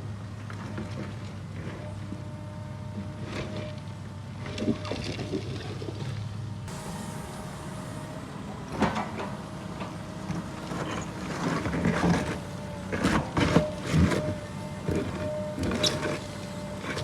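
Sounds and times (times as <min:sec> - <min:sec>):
heavy machinery engine hum: 0:00.0 - 0:17.0.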